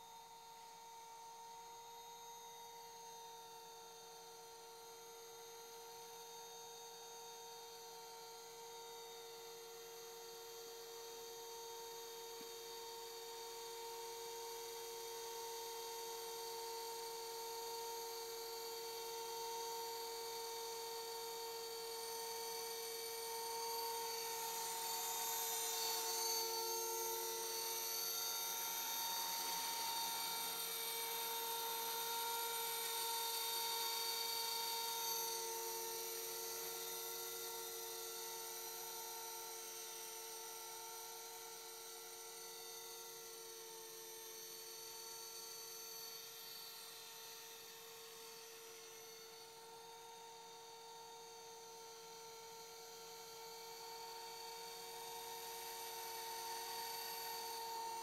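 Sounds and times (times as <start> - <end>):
rc helicopter high whine: 0.0 - 58.0.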